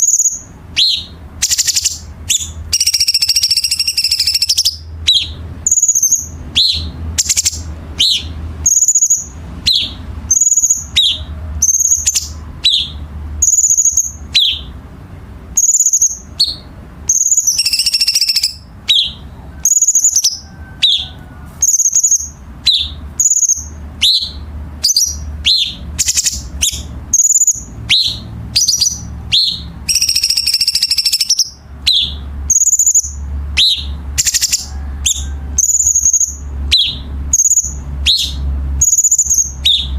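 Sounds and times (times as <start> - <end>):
songbird calling: 0.0 - 14.8, 15.5 - 39.9
steady low hum: 0.0 - 39.9.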